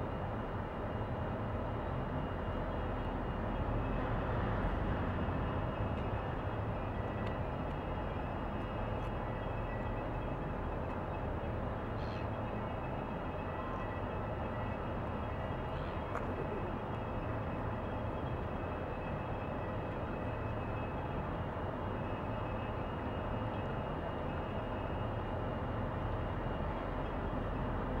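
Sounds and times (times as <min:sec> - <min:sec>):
faint whining tones: 0:00.0 - 0:28.0
ship diesel engine drone: 0:00.0 - 0:28.0.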